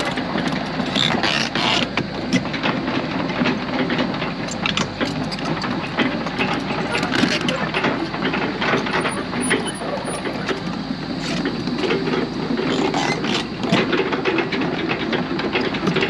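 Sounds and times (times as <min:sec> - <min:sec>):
excavator engine drone: 0:00.0 - 0:16.0
metallic clanks and rattles: 0:00.0 - 0:16.0.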